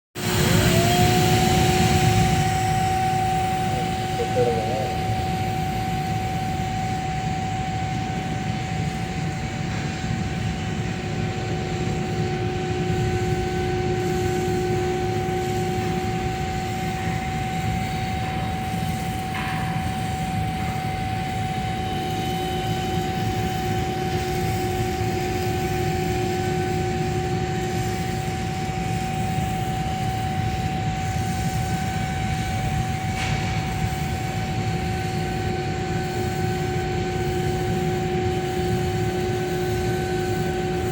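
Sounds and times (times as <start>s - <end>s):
machinery drone with high whine: 0.2s - 40.9s.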